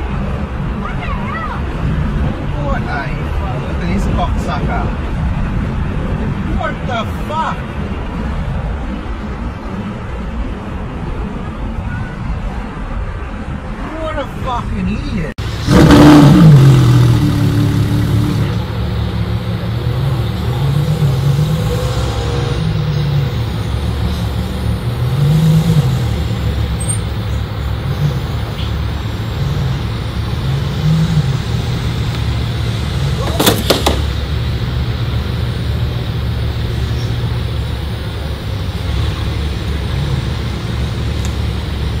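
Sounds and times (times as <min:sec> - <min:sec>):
car engine idling with deep rumble: 0:00.0 - 0:42.0.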